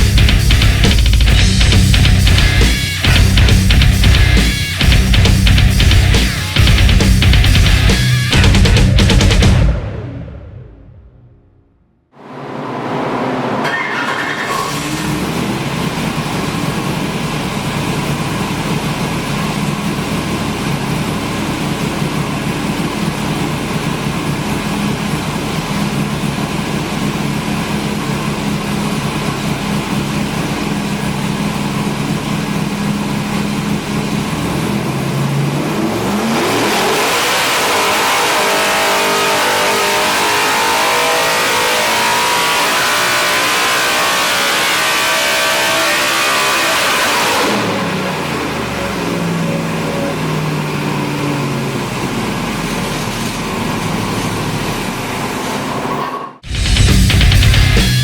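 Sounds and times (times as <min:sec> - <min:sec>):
car engine idling and revving: 0:00.0 - 0:11.1, 0:12.2 - 0:58.0.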